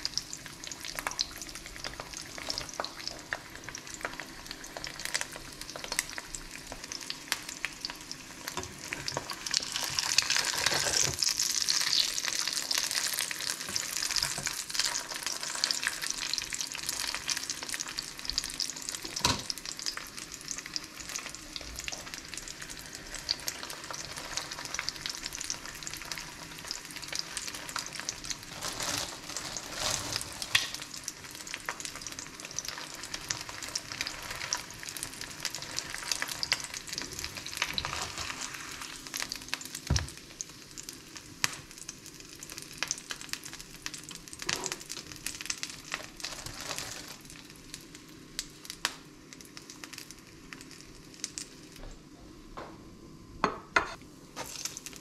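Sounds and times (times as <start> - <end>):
bread sizzling in a pan: 0.0 - 51.8, 53.9 - 55.0.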